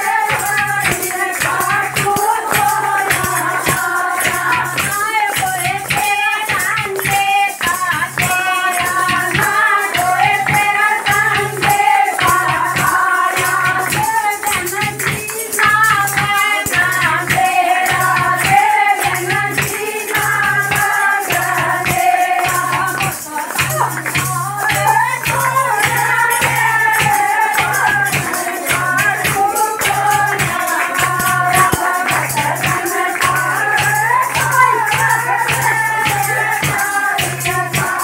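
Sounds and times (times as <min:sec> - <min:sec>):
hand claps: 0:00.0 - 0:38.0
jingling percussion: 0:00.0 - 0:38.0
women singing devotional song: 0:00.0 - 0:38.0.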